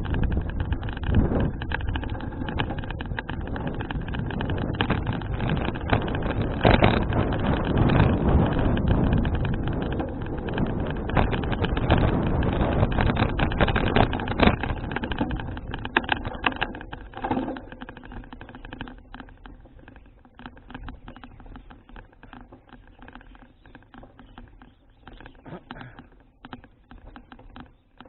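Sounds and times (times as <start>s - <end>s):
bicycle rattling clicks: 0.0s - 28.0s
bicycle ticking: 0.0s - 28.0s
wind buffeting microphone: 0.0s - 28.0s.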